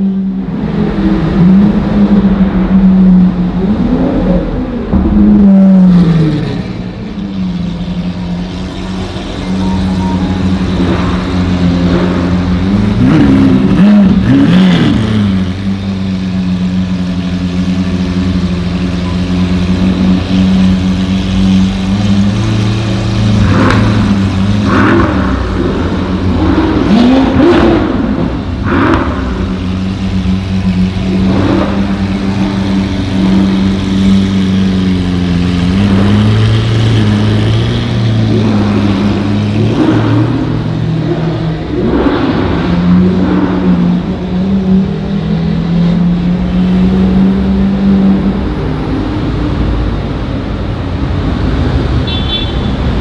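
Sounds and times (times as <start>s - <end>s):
car engines idling: 0.0s - 53.0s
engine revving: 8.2s - 52.0s.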